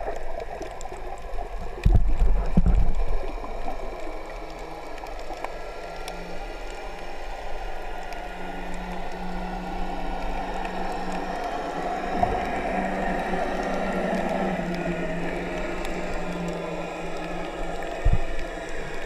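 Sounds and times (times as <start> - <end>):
faint clicks: 0.0 - 19.0
hissing gurgling haze: 0.0 - 19.0
underwater low hum: 0.0 - 19.0.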